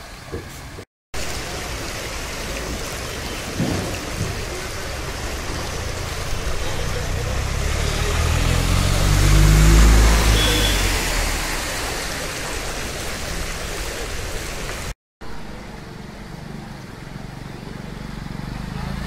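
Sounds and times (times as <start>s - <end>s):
rushing hiss of outdoor noise: 0.0s - 19.0s.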